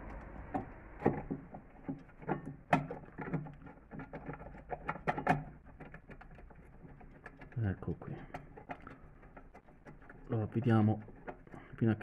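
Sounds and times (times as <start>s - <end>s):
small metallic clicks and taps: 0.6s - 11.8s.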